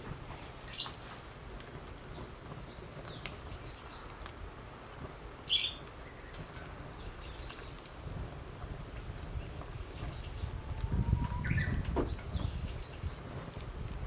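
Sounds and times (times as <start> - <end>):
birds chirping: 0.6 - 1.2, 2.0 - 4.7, 5.4 - 13.6.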